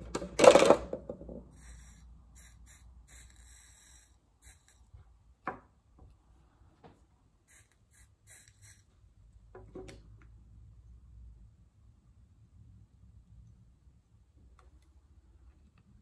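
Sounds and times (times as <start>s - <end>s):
faint low hum: 1.2s - 16.0s.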